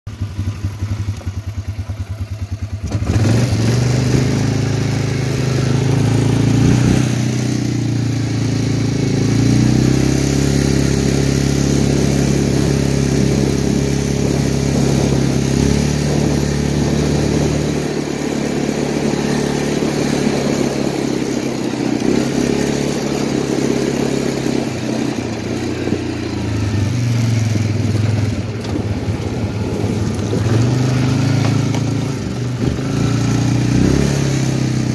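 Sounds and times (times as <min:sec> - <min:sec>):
atv engine idling and revving: 0:00.1 - 0:34.9.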